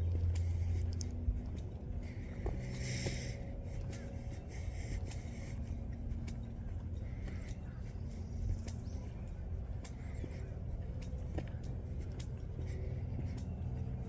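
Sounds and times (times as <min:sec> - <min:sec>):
distant road traffic rumble: 0:00.0 - 0:14.0
footsteps on a trail: 0:00.0 - 0:14.0.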